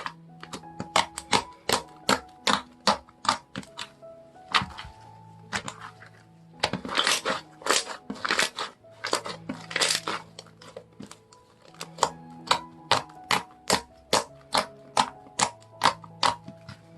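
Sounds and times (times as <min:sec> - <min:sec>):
soft background music: 0:00.0 - 0:16.9.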